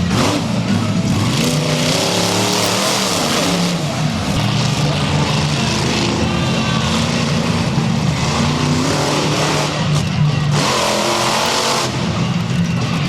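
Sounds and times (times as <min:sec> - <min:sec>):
steady rushing noise: 0:00.0 - 0:13.0
truck engine revving: 0:00.0 - 0:13.0.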